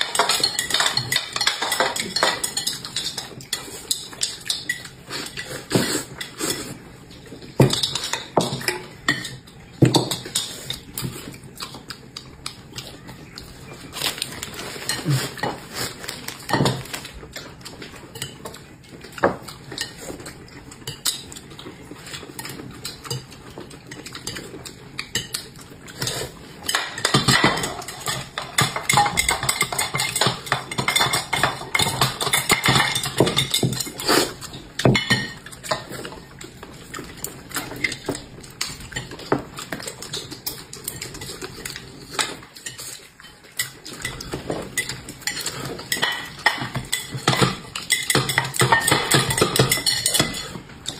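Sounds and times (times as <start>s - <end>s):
utensils clinking against dishes: 0.0s - 50.9s.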